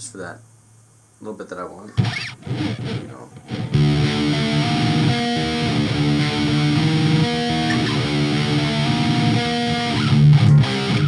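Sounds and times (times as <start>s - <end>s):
electric guitar riff: 2.0s - 11.0s.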